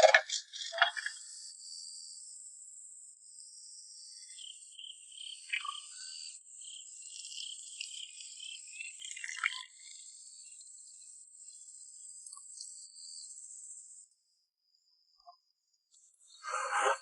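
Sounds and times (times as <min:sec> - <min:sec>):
insects trilling: 0:00.0 - 0:14.1.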